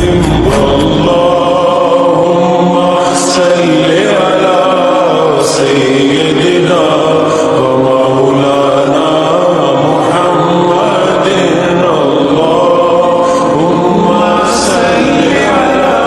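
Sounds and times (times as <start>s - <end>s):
layered voices chanting a devotional song: 0.0s - 16.0s.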